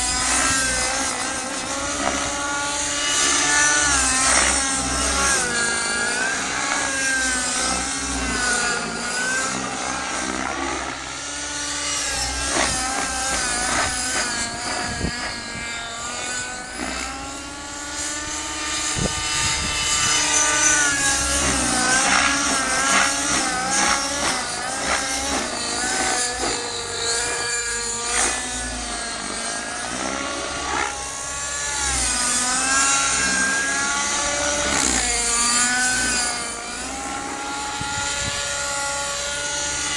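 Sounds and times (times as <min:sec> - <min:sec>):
model helicopter engine and rotor: 0:00.0 - 0:39.9.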